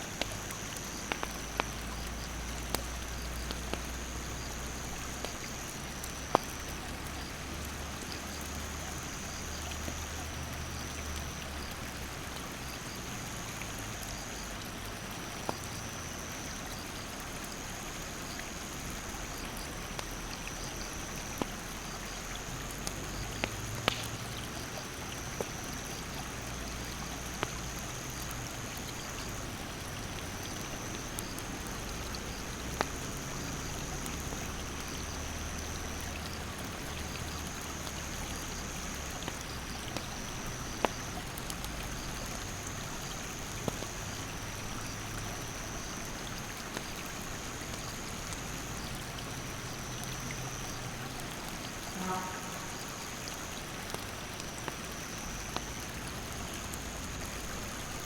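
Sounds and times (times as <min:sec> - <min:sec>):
campfire crackling and popping: 0:00.0 - 0:58.0
insects droning: 0:00.0 - 0:58.0
mountain stream rushing: 0:00.0 - 0:58.0.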